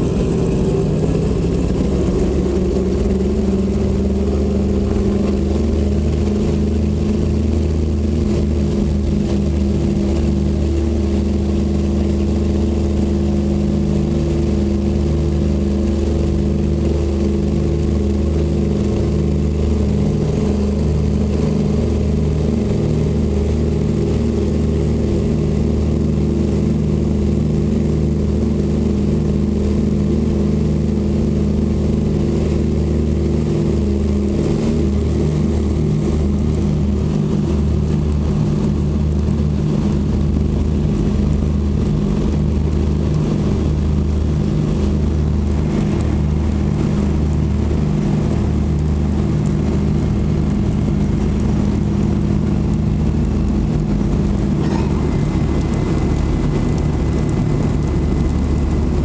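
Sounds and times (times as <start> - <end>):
propeller plane engines droning: 0.0 - 59.0.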